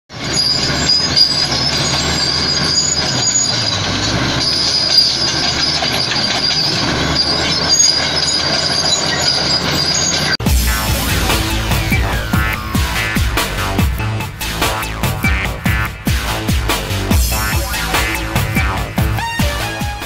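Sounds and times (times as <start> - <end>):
bulldozer diesel engine under load: 0.1 - 20.0
steel tracks squealing: 0.1 - 20.0.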